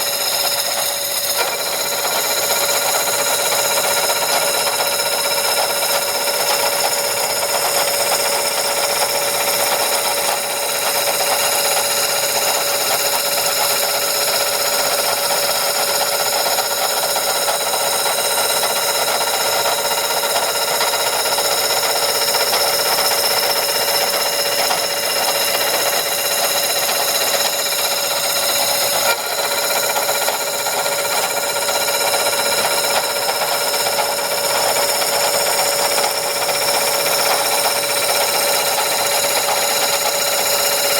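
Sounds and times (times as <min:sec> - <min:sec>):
lathe whining and cutting metal: 0:00.0 - 0:40.9.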